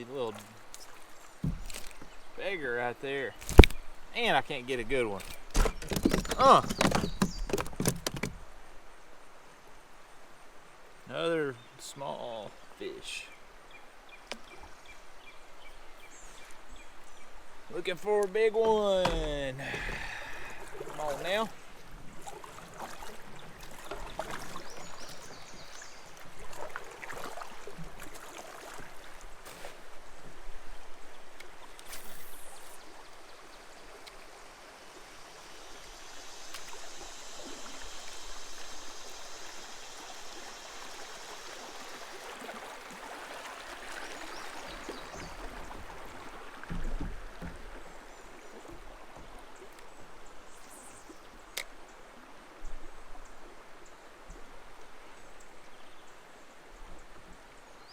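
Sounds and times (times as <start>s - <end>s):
creek water rushing: 0.0s - 57.9s.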